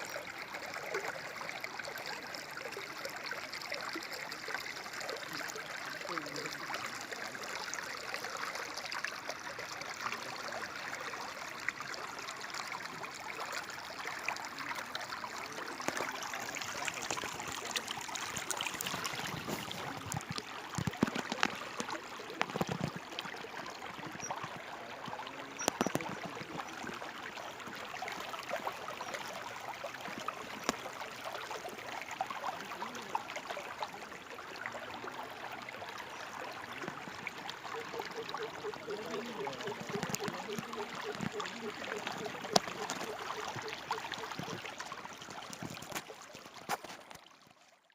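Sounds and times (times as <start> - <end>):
stream trickling: 0.0 - 47.9.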